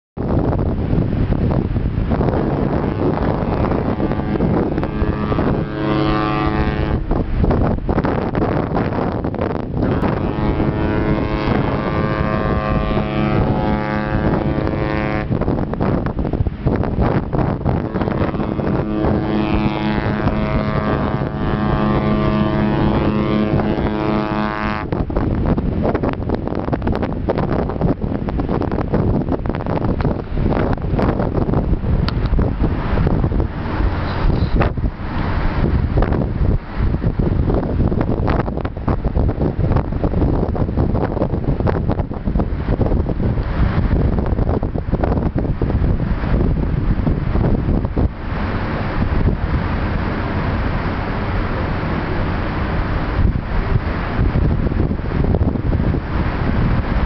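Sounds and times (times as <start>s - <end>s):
wind rumble on microphone: 0.0s - 57.0s
ship horn blast: 0.9s - 26.6s, 30.0s - 40.4s, 42.6s - 57.0s.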